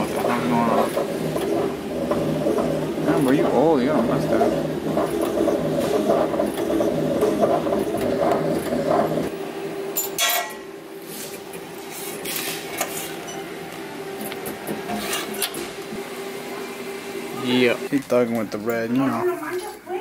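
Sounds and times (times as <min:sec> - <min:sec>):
engraving machine humming: 0:00.0 - 0:09.9, 0:11.6 - 0:19.2.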